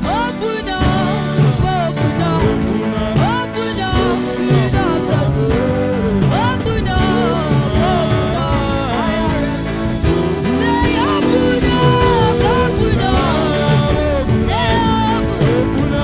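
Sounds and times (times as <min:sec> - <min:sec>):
band accompaniment: 0:00.0 - 0:16.0
person singing: 0:00.0 - 0:16.0.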